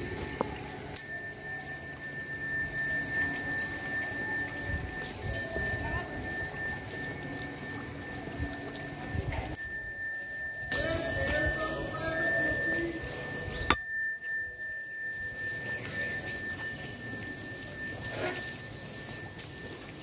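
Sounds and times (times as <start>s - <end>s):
handheld bell ringing: 0.9s - 20.0s.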